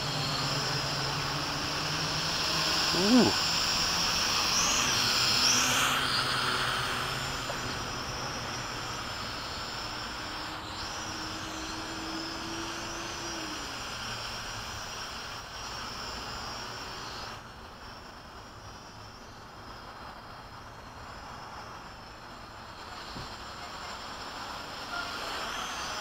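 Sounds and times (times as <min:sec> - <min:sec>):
drone propellers whining: 0:00.0 - 0:23.5, 0:24.3 - 0:26.0.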